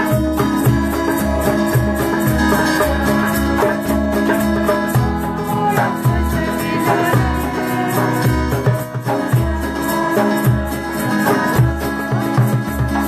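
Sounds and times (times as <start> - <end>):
guitar: 0.0 - 13.0
hand drums thumping: 0.0 - 13.0.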